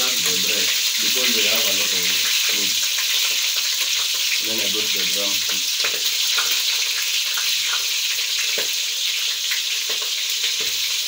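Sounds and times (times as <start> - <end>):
chicken sizzling in hot oil: 0.0 - 11.0
oil popping and spattering: 0.0 - 11.0.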